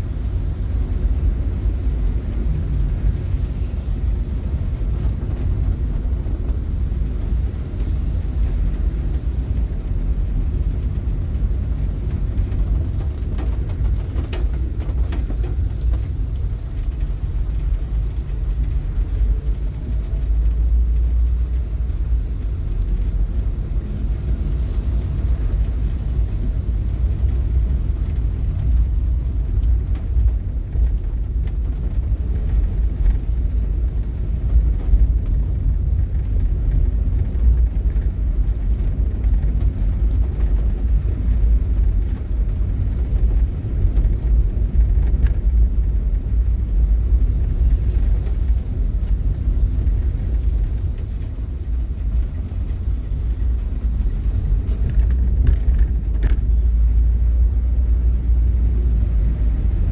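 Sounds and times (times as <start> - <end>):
loud low rumble: 0.0 - 59.9.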